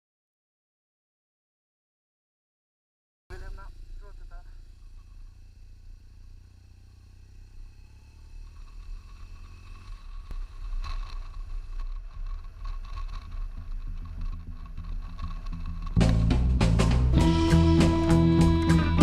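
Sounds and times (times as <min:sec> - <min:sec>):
thin whine: 0:03.3 - 0:19.0
vehicle engine rumble: 0:03.3 - 0:19.0.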